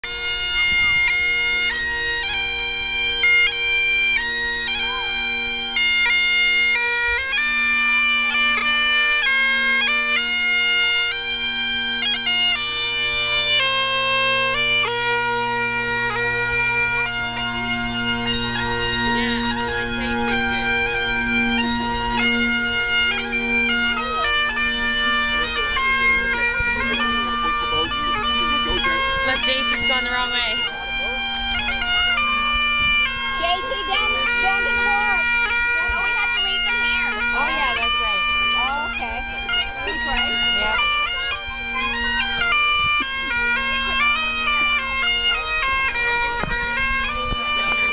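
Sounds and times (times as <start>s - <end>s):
bagpipes playing: 0.0s - 47.9s.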